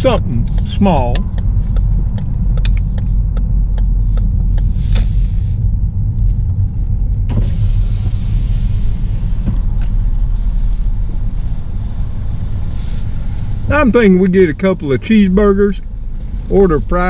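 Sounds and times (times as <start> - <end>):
car interior rumble: 0.0 - 17.0
outside air and traffic hiss: 0.0 - 17.0.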